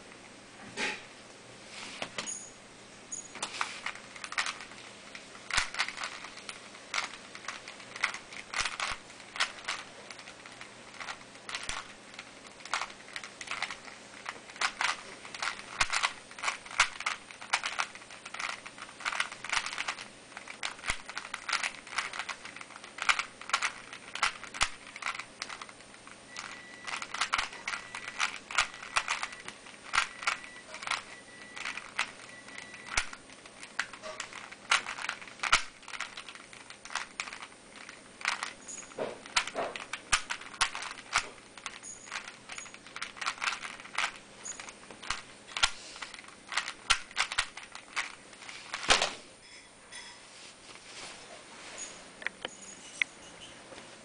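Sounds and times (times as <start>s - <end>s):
puzzle cube layers clicking: 3.4s - 4.8s, 5.5s - 25.8s, 26.4s - 48.9s.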